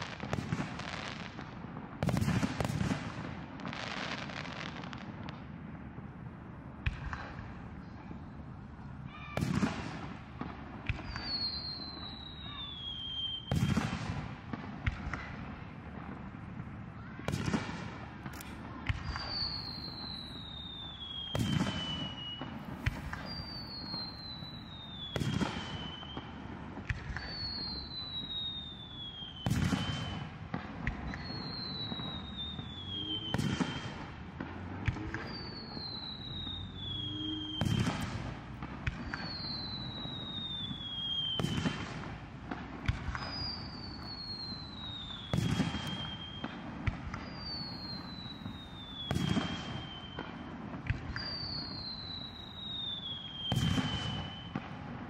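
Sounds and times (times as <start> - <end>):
falling fireworks whistle: 0.0 - 1.4, 6.9 - 15.3, 17.0 - 55.0
fireworks bangs: 0.0 - 55.0.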